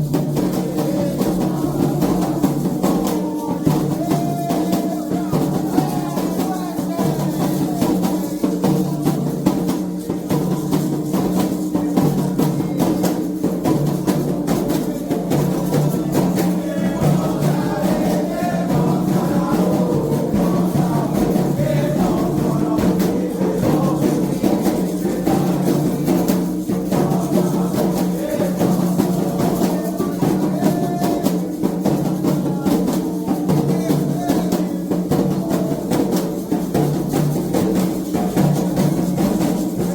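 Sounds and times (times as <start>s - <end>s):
hand drums playing: 0.0s - 39.9s
voices singing: 0.0s - 39.9s.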